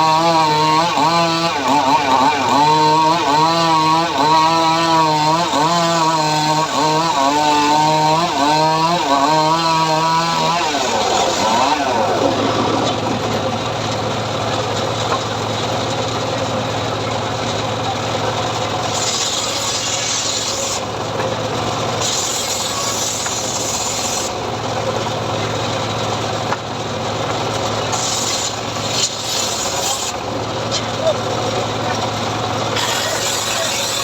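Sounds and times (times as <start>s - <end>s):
engine-driven saw cutting wood: 0.0s - 34.0s.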